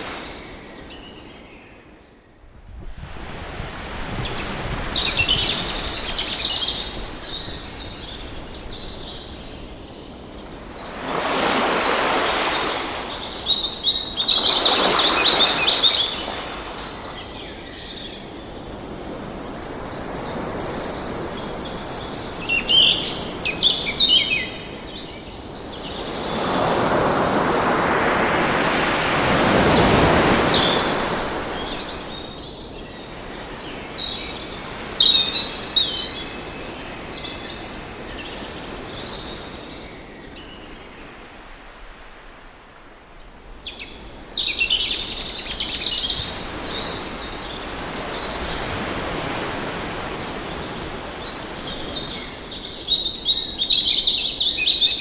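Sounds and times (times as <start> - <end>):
waves washing in: 0.0 - 1.2, 2.6 - 40.0, 44.0 - 55.0
birds chirping and trilling: 0.0 - 2.4, 4.0 - 41.9, 43.2 - 55.0.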